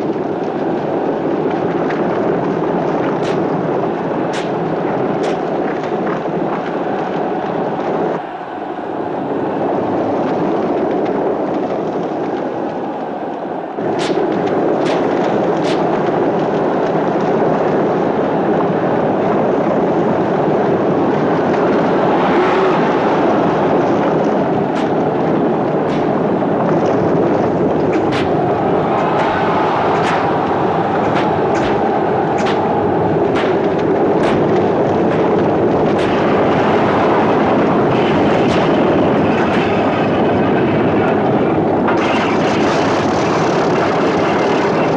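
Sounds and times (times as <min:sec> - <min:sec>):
galloping horses: 0:00.0 - 0:08.2, 0:09.6 - 0:44.9
sharp cracks: 0:00.0 - 0:08.4, 0:10.7 - 0:17.5, 0:21.2 - 0:44.9
rumbling chariot wheels: 0:00.0 - 0:44.9.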